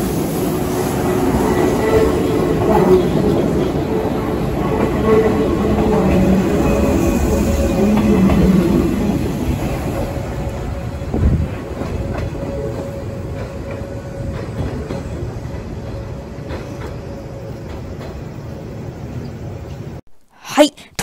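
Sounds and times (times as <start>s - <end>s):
electric train running noise: 0.0s - 19.2s.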